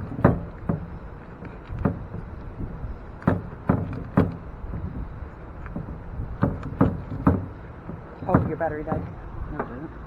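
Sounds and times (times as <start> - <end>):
low steady rumble: 0.0 - 10.0
waves thumping boat hull: 0.0 - 10.0.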